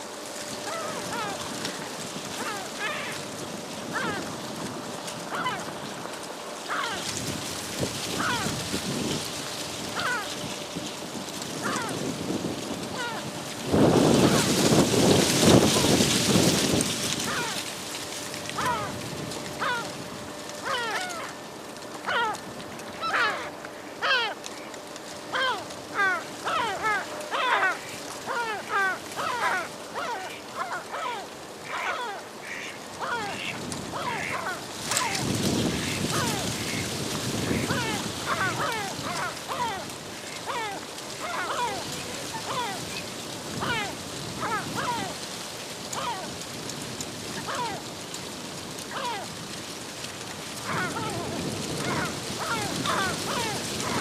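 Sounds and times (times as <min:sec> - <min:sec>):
gulls calling: 0:00.0 - 0:07.3, 0:08.0 - 0:10.8, 0:11.5 - 0:12.1, 0:12.8 - 0:45.2, 0:45.8 - 0:46.4, 0:47.2 - 0:47.9, 0:48.8 - 0:49.4, 0:50.6 - 0:54.0.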